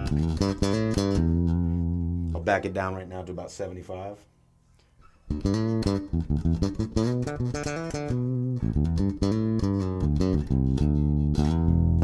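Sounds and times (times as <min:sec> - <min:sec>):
electric bass plucked notes: 0:00.0 - 0:03.6, 0:05.3 - 0:12.0.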